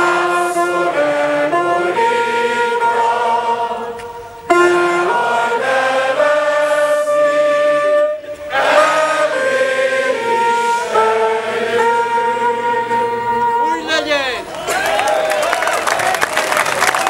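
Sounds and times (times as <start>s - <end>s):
woodwind playing slow melody: 0.0s - 14.2s.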